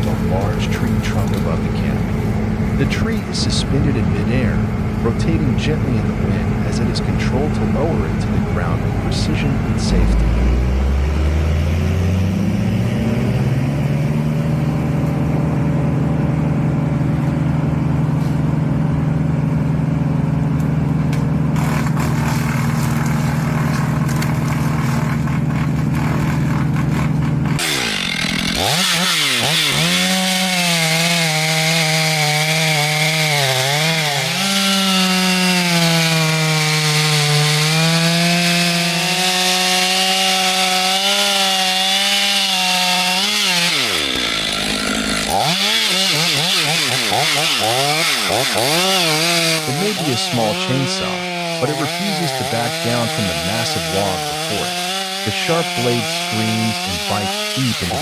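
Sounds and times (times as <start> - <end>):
chainsaw cutting wood: 0.0 - 58.0
chainsaw revving: 0.0 - 58.0.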